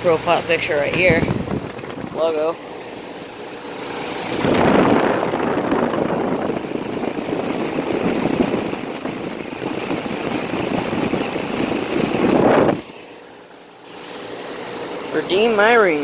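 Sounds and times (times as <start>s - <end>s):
condenser fan rushing air: 0.0s - 16.0s.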